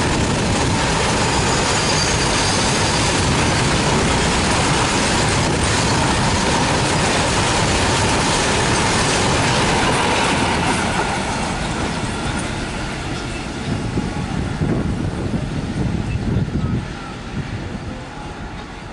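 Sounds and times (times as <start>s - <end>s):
train wheels clattering on rails: 0.0s - 15.9s.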